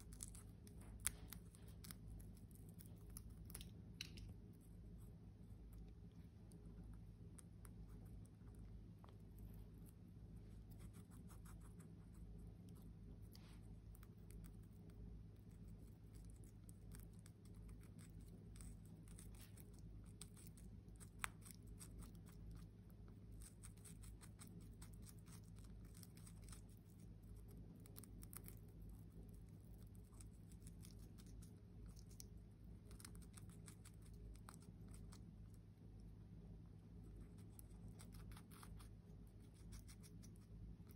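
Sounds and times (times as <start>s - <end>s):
parrot chewing pea pod: 0.0s - 35.7s, 37.2s - 40.9s.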